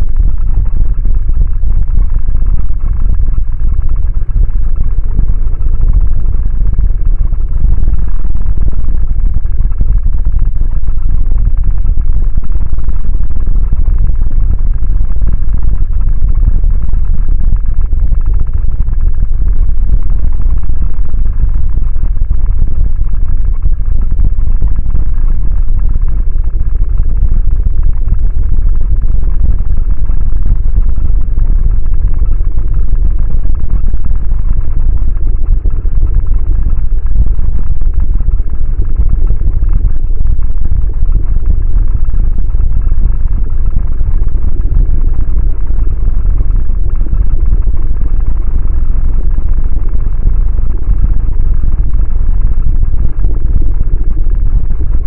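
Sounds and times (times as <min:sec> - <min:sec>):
loud steady deep noise: 0:00.0 - 0:55.0.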